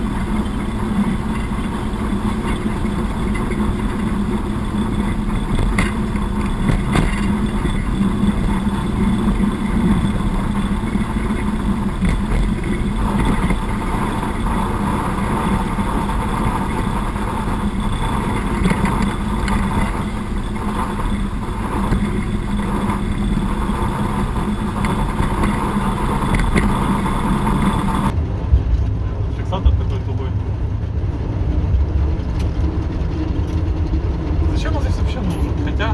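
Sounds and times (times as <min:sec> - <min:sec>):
diesel locomotive engine running: 0:00.0 - 0:35.9.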